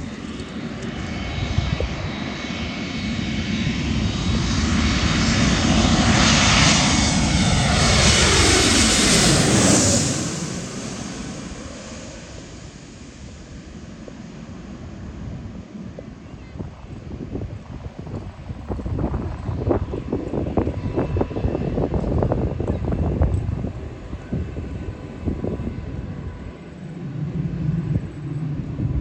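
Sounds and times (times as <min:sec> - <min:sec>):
jet airliner passing overhead: 0:00.0 - 0:29.0.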